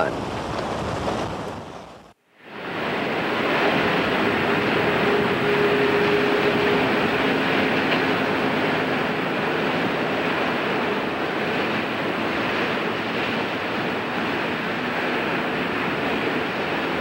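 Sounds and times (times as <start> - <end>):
outdoor rushing noise: 0.0 - 17.0.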